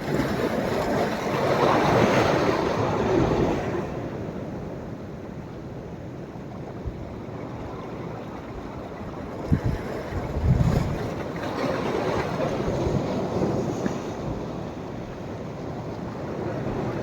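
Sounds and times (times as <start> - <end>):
waves breaking on sandy beach: 0.0 - 5.8, 6.7 - 17.0.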